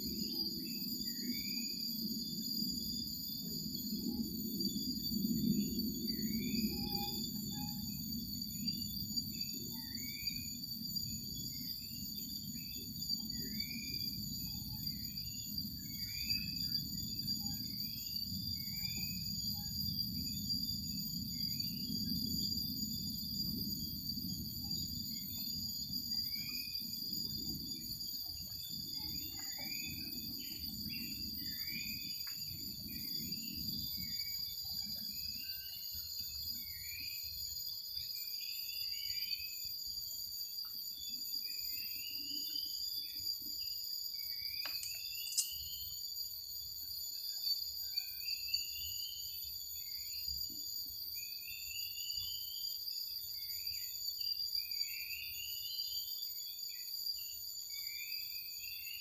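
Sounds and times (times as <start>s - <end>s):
insect chorus with crickets: 0.0s - 59.0s.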